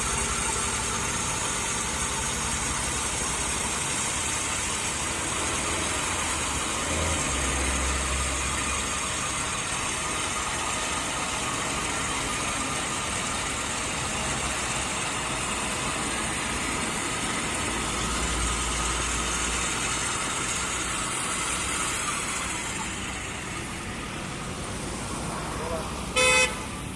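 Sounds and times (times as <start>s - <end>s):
drilling rig running: 0.0s - 26.9s.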